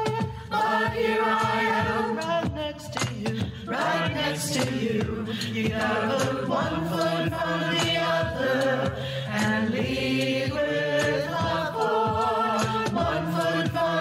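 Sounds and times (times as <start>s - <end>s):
mixed choir singing a hymn: 0.0s - 2.3s, 3.6s - 14.0s.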